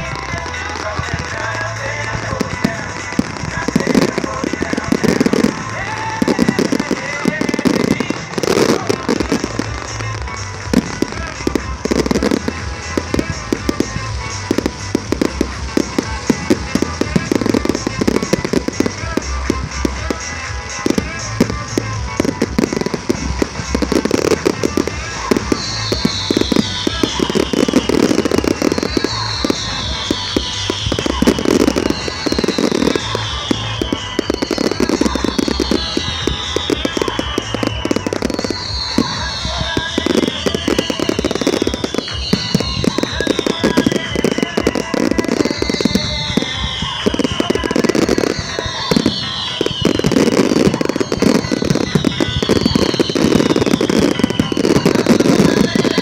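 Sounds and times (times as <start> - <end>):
falling firework whistle: 0.0 - 56.0
fireworks crackling and bursting: 0.0 - 56.0
music with steady bass beat: 0.0 - 56.0.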